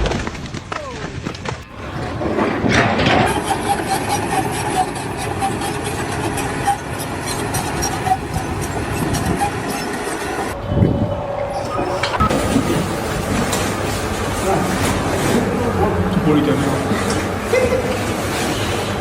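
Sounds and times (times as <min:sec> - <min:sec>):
clattering: 0:00.0 - 0:15.4
machine engine running: 0:01.4 - 0:19.0.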